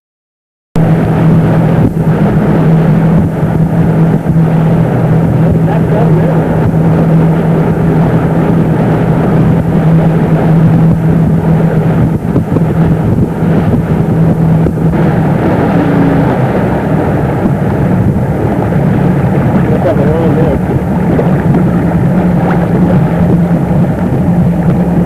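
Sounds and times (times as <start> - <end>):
motorboat engine running: 0.8 - 25.0
wind noise on microphone: 0.8 - 25.0.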